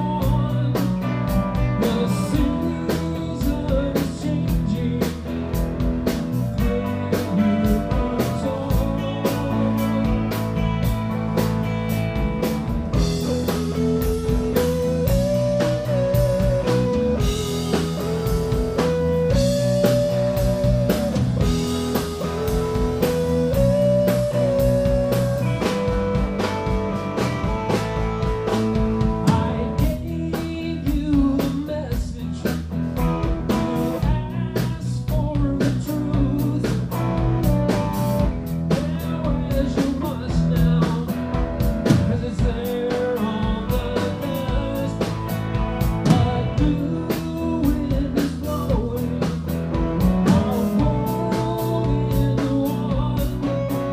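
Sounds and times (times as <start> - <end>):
high bent guitar melody: 0.0 - 53.9
live blues rock band: 0.0 - 53.9.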